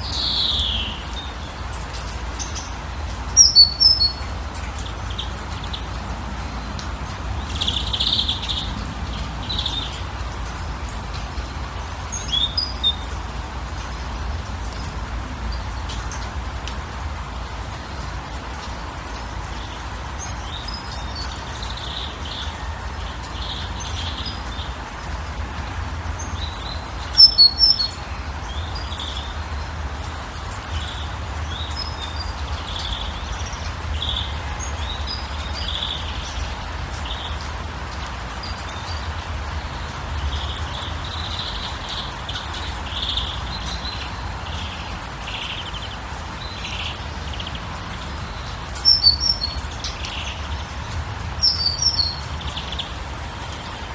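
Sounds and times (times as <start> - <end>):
wild birds chirping: 0.0 - 16.6, 17.2 - 53.9.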